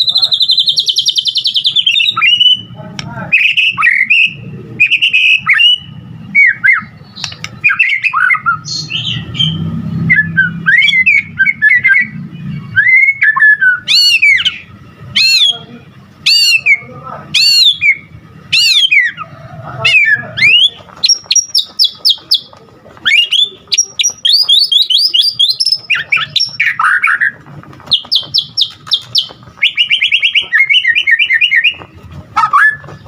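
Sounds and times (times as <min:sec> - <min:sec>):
bird singing whistled song: 0:00.0 - 0:02.7, 0:03.3 - 0:19.3, 0:19.9 - 0:33.0.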